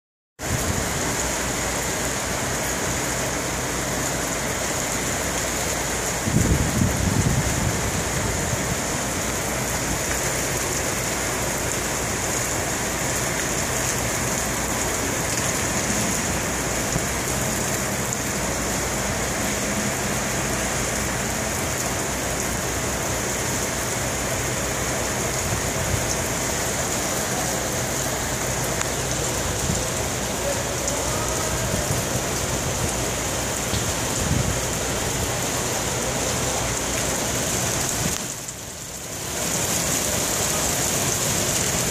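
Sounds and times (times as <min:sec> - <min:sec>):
heavy rain on pavement: 0:00.4 - 0:41.9.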